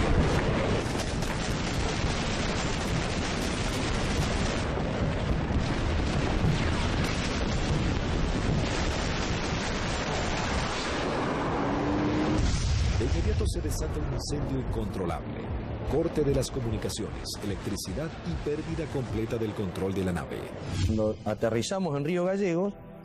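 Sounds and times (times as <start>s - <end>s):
low jet roar: 0.0s - 21.0s
explosion rumble: 0.0s - 21.3s.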